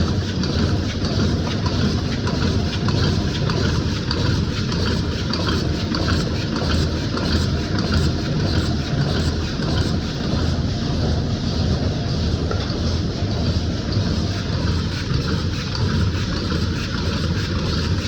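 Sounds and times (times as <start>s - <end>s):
factory machinery rumbling: 0.0s - 18.0s.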